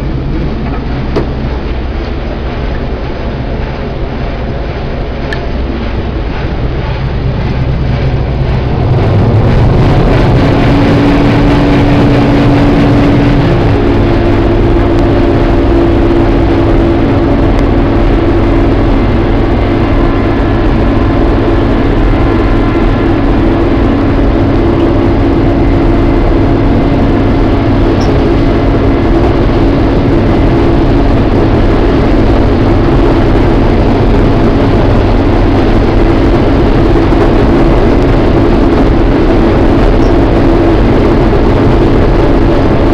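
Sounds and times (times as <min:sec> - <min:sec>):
combine harvester running: 0:00.0 - 0:42.9.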